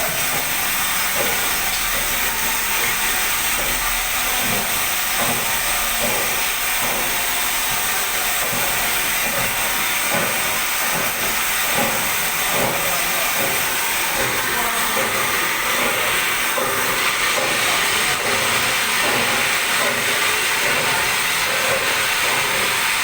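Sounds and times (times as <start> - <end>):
ice machine hissing: 0.0 - 23.0.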